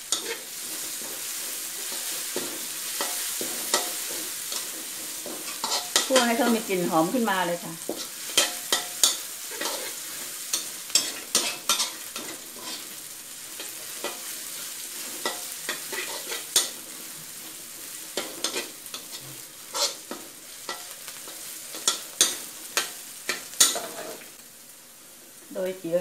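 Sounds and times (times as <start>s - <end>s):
metal spatula scraping a wok: 0.0s - 7.0s, 7.8s - 24.3s
oil sizzling: 0.0s - 26.0s.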